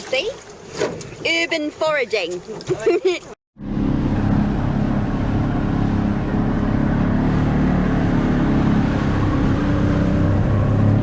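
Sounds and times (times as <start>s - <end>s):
boat motor humming: 0.0s - 11.0s
hull rushing through water: 0.0s - 11.0s.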